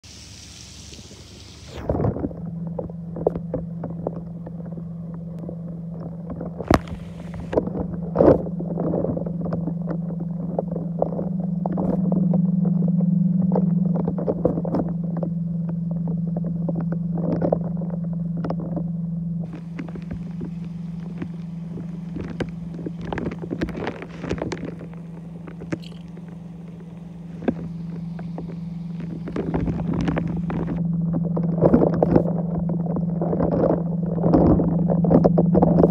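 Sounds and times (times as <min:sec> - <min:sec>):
pump humming under water: 0:00.0 - 0:35.9
water crackling over microphone: 0:00.0 - 0:35.9.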